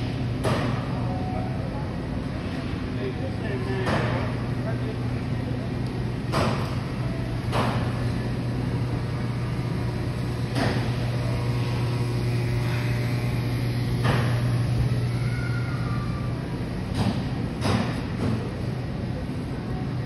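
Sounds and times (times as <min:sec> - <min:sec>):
refrigeration and ventilation hum: 0:00.0 - 0:20.0.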